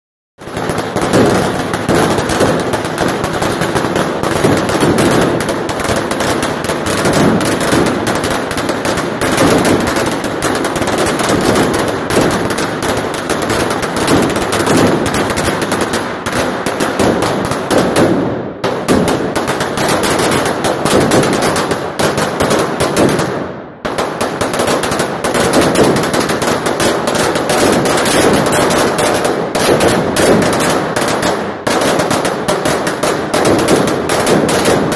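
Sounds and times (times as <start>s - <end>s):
firecrackers banging: 0.4s - 34.9s.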